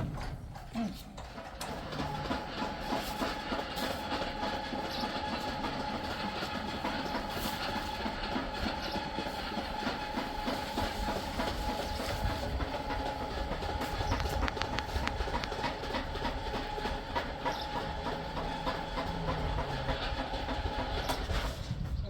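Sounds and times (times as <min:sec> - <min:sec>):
vehicle engine rumbling and rattling: 0:00.0 - 0:22.0.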